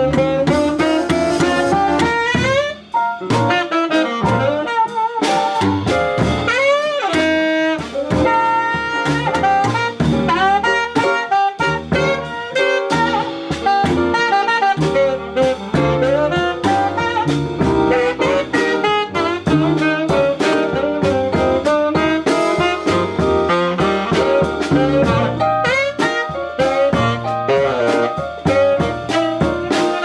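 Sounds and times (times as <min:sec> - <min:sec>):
drum kit beat: 0:00.0 - 0:30.0
saxophone lead line: 0:00.0 - 0:30.0.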